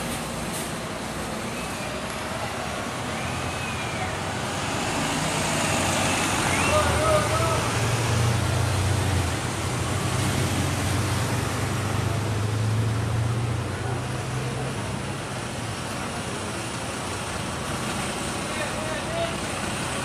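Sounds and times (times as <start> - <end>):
bus engine rumble: 0.0 - 20.0
traffic noise: 0.0 - 20.0.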